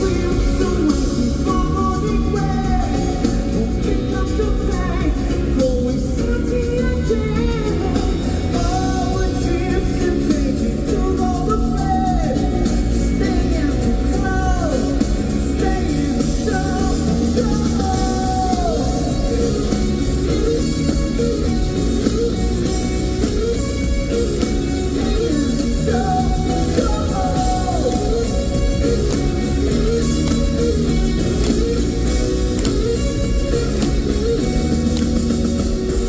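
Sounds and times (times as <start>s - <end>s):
person singing: 0.0s - 34.7s
electric guitar: 0.0s - 36.0s.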